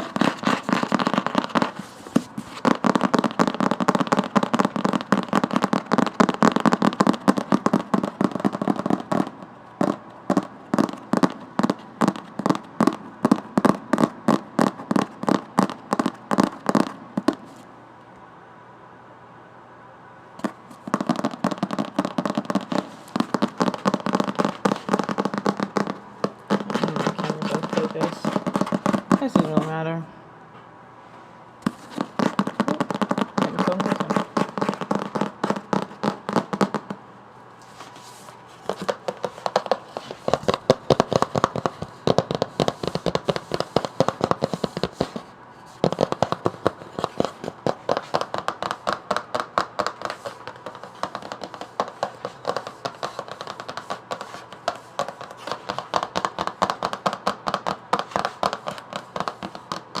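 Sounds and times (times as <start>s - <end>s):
fingers tapping on a book: 0.0s - 17.4s, 20.4s - 29.7s, 31.6s - 37.0s, 38.6s - 60.0s.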